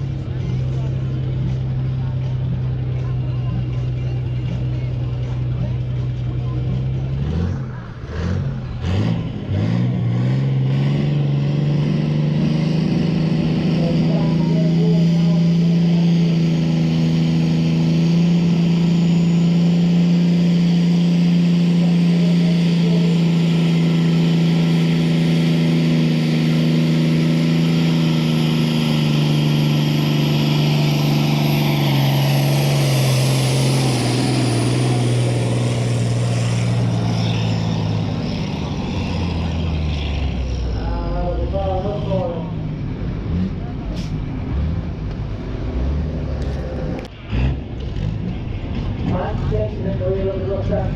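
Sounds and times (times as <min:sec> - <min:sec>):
tractor engine droning under load: 0:00.0 - 0:50.8.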